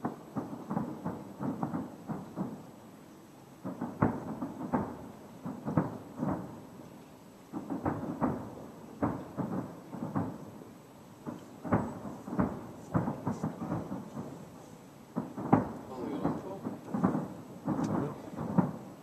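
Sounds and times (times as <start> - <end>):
distant firework shells bursting: 0.0 - 2.8, 3.6 - 6.9, 7.5 - 19.0.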